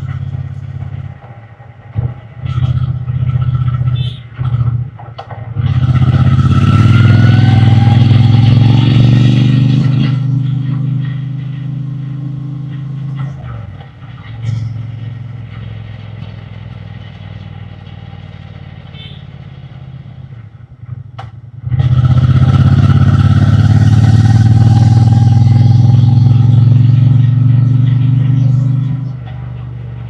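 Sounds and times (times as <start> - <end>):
motorcycle engine and exhaust: 0.0 - 30.0.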